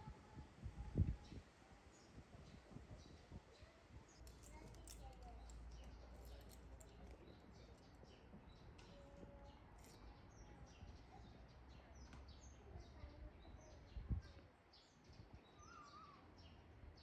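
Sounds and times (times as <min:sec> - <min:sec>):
small birds chirping: 0:01.2 - 0:17.0.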